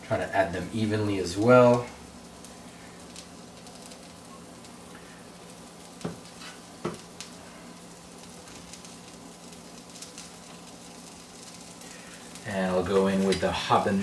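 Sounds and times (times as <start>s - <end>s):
omelette sizzling in a frying pan: 0.0s - 14.0s.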